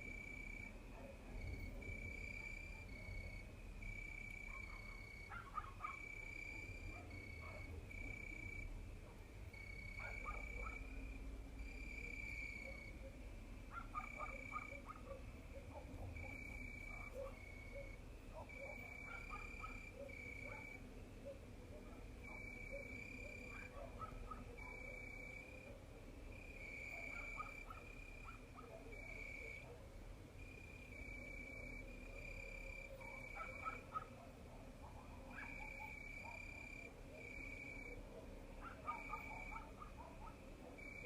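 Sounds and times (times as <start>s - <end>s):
crickets trilling: 0.0s - 8.8s, 9.4s - 21.1s, 22.1s - 29.6s, 35.3s - 38.0s, 38.8s - 41.0s
faint low insect calls: 0.0s - 41.0s.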